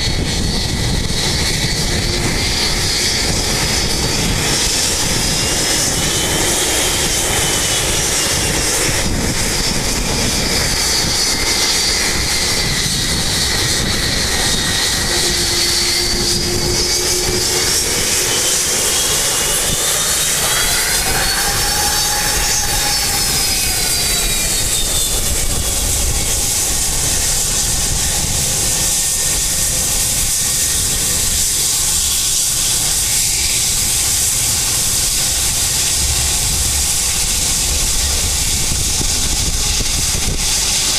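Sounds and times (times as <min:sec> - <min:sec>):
jet engines at high thrust: 0:00.0 - 0:40.9.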